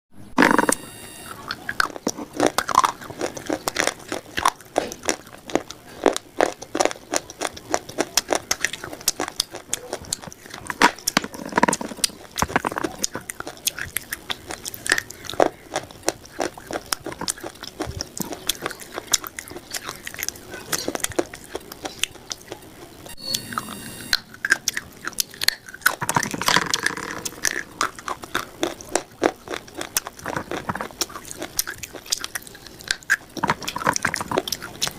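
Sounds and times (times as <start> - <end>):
chewing crunchy food: 0.4 - 34.9.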